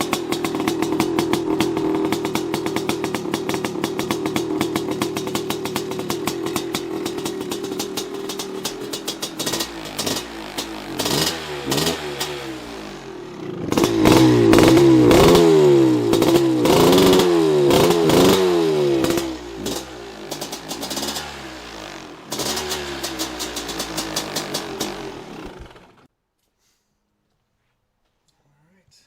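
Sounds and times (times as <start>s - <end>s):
two-stroke engine idling and revving: 0.0s - 26.1s.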